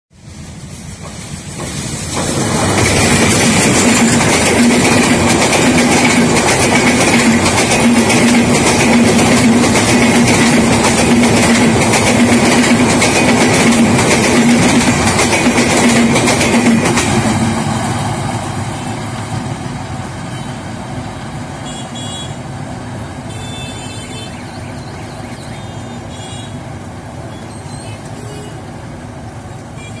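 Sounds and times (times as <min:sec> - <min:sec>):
passenger train passing: 0:00.1 - 0:30.0.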